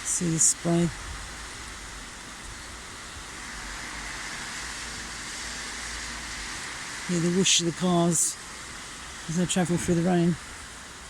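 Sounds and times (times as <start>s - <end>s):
car tyres on wet road: 0.0s - 11.0s
steady rain: 0.0s - 11.0s.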